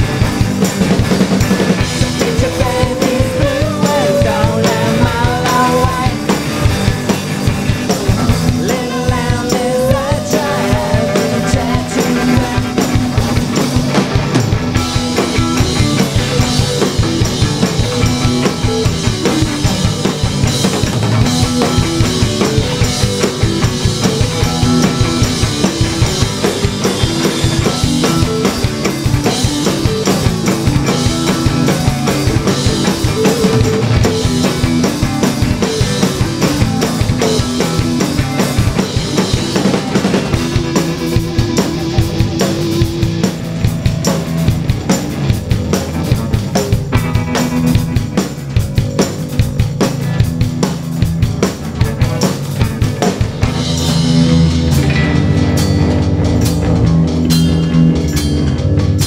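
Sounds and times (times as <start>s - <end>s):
drum kit beat: 0.0s - 59.0s
live rock band playing: 0.0s - 59.0s.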